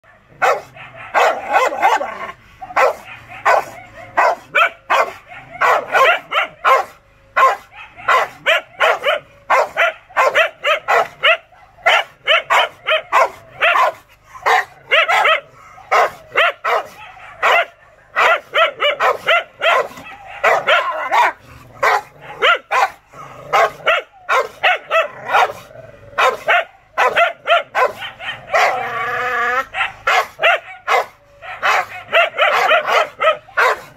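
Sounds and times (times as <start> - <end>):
dog barking aggressively: 0.0 - 33.9.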